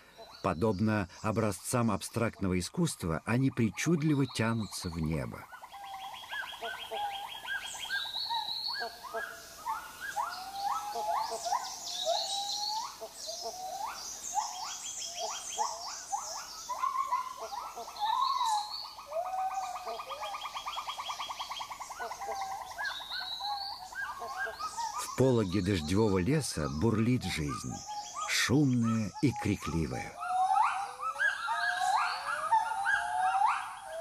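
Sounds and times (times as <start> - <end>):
rainforest animal chorus: 0.0 - 34.0.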